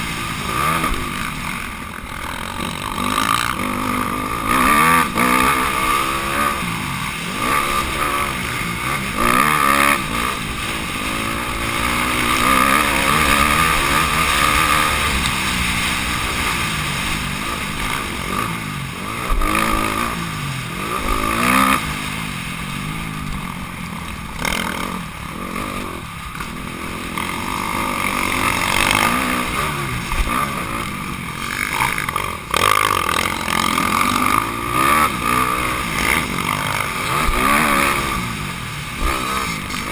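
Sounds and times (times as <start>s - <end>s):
motocross engine revving: 0.0s - 39.9s
steady rushing noise: 0.0s - 39.9s.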